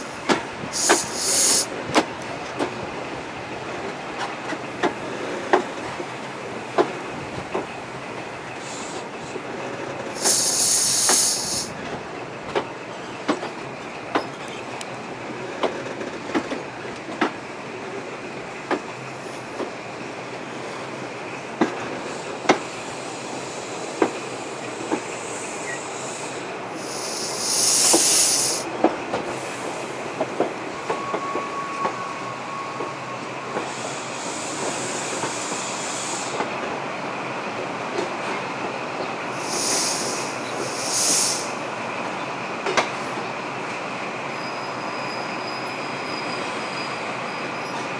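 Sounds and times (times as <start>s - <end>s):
train coach running noise: 0.0s - 47.9s.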